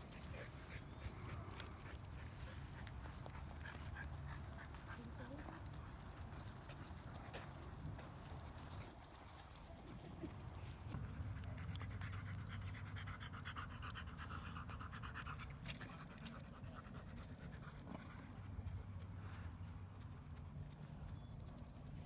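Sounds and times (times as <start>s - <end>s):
dog panting: 0.0s - 19.9s.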